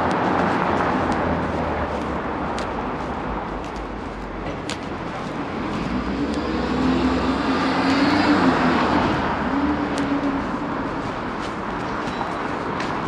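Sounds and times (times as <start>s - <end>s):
vehicle passing on street: 0.0s - 13.0s.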